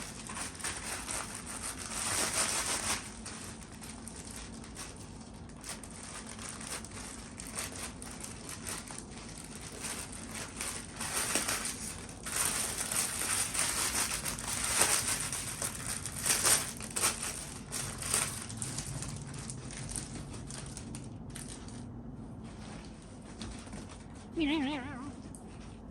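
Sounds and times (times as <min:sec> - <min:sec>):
balloons crinkling and hissing: 0:00.0 - 0:21.9.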